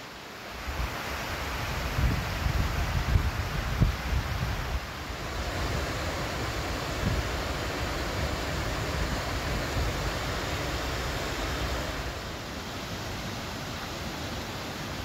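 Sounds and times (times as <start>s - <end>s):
river water pouring over weir: 0.0s - 15.0s.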